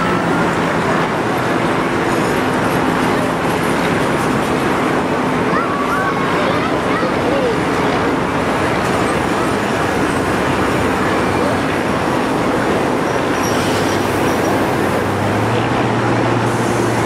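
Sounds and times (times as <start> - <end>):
diesel locomotives passing: 0.0 - 17.0
rail noise: 0.0 - 17.0.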